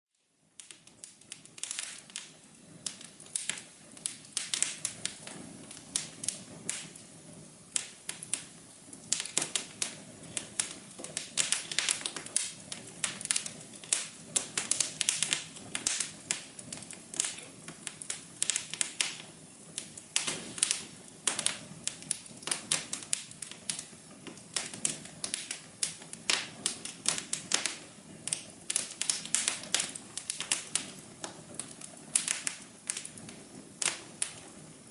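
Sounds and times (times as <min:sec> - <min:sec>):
wood fire crackling: 0:00.2 - 0:34.9.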